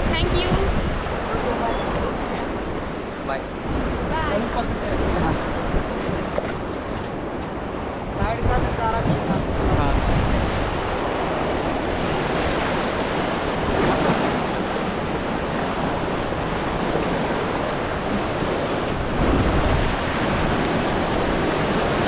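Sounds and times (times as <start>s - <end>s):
rushing river water: 0.0s - 22.0s
wind buffeting microphone: 0.0s - 22.0s.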